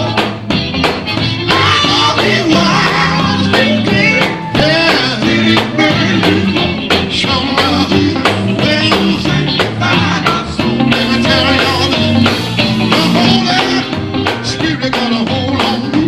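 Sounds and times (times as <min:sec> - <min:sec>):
bass guitar: 0:00.0 - 0:16.0
drums playing steady beat: 0:00.0 - 0:16.0
electric guitar: 0:00.0 - 0:16.0
voices singing: 0:01.1 - 0:16.0.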